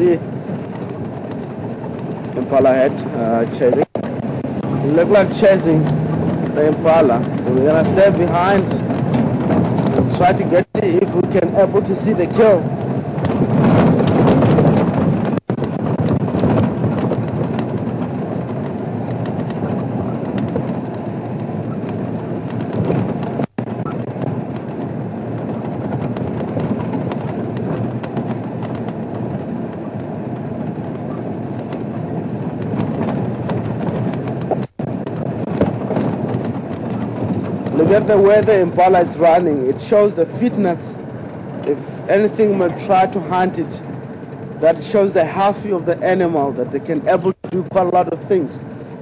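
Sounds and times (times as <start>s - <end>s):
vehicle body rattling: 0.0s - 49.0s
vehicle engine running: 0.0s - 49.0s.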